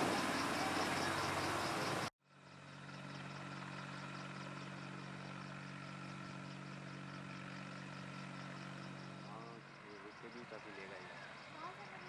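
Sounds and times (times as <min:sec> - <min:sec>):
engine humming faintly: 0:00.0 - 0:12.0.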